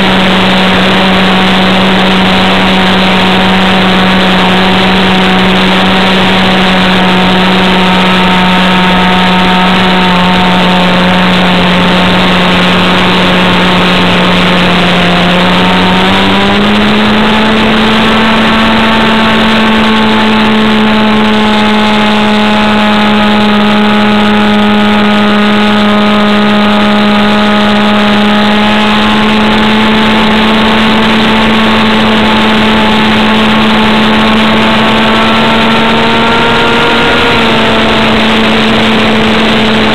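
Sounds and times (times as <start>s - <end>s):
model airplane engine running: 0.0s - 39.9s.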